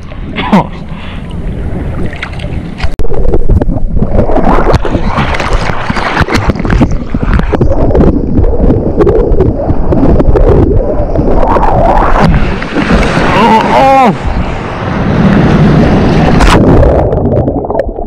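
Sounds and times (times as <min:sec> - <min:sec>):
seawater rushing and splashing: 0:00.0 - 0:18.0
wind buffeting microphone: 0:01.4 - 0:17.7.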